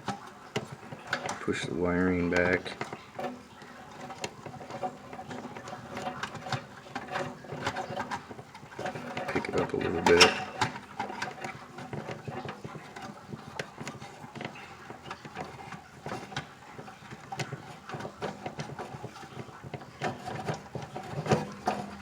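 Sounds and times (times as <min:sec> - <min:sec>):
plastic clips clicking and rattling: 0:02.4 - 0:22.0.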